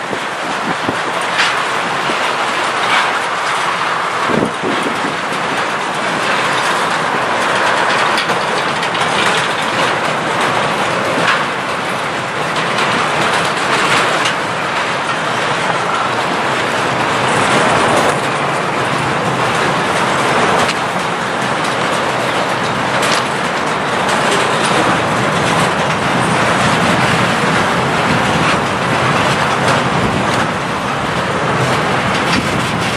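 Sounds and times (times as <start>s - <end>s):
train wheels rumbling on rail: 0.0s - 32.9s
wheels clacking over rail joints: 0.0s - 32.9s.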